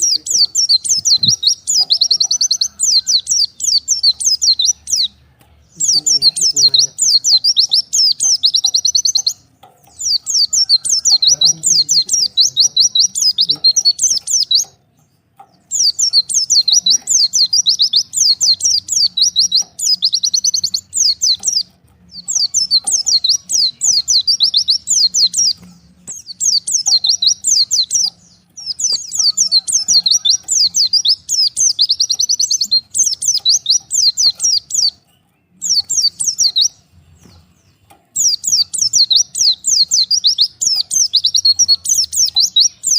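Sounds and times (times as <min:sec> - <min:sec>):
bird twittering chirps: 0:00.0 - 0:42.9.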